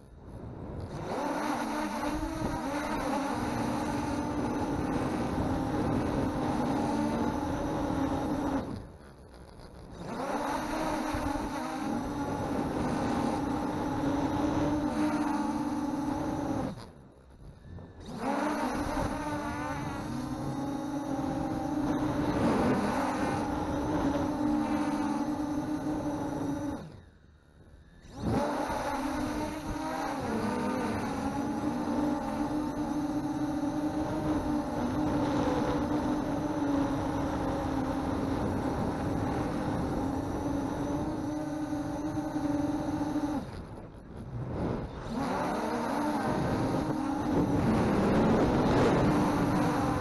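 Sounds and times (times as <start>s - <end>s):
wind noise: 0.0s - 8.9s, 17.4s - 50.0s
drone propellers whining: 0.0s - 50.0s
quadcopter motors whirring: 0.0s - 50.0s.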